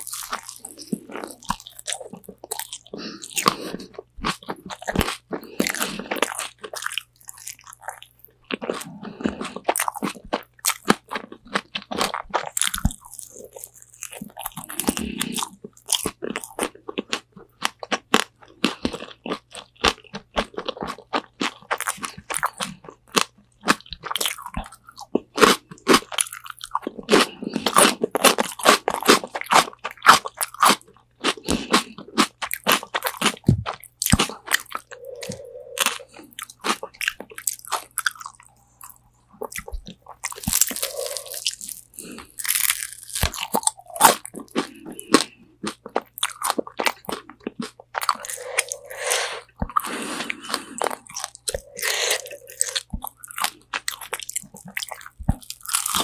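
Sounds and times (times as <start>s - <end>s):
crunching fried chicken: 0.0s - 56.0s
soft chewing: 0.0s - 56.0s.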